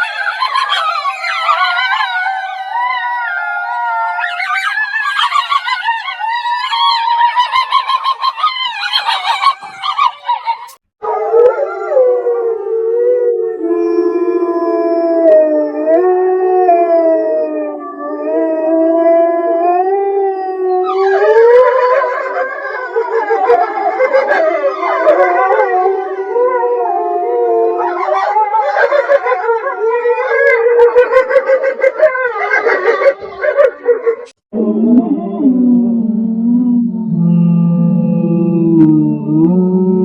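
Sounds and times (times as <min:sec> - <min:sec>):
wolves howling: 0:00.0 - 0:35.5.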